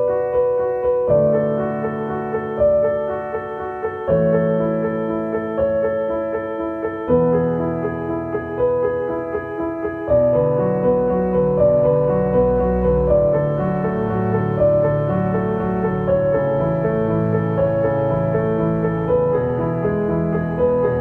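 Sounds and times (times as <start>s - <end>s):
slow piano piece: 0.0s - 21.0s.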